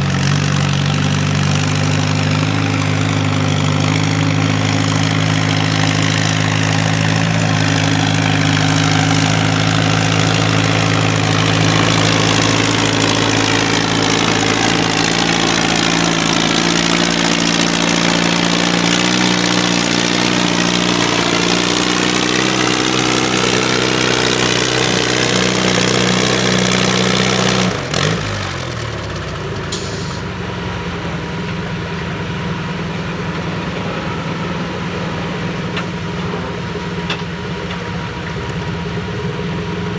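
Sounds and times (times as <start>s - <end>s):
quieter engine running: 0.0s - 39.9s
tractor engine running loud: 0.0s - 39.9s.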